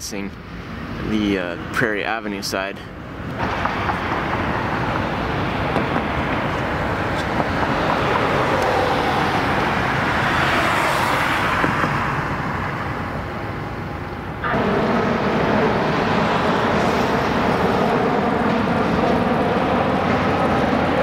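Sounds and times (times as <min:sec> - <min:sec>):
cars passing on busy street: 0:00.0 - 0:21.0.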